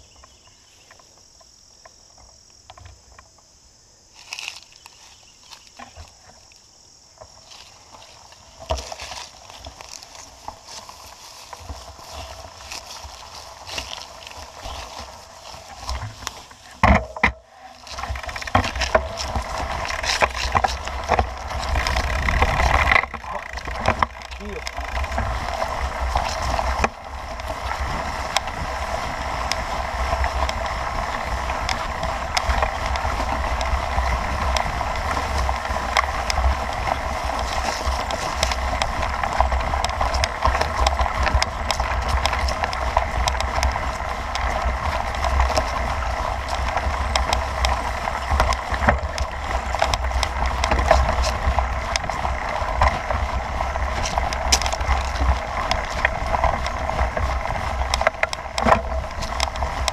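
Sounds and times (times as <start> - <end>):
bike tyres rumbling over grass: 0.0 - 3.4, 4.1 - 59.9
bike rattles and knocks: 4.2 - 6.5, 7.1 - 59.9.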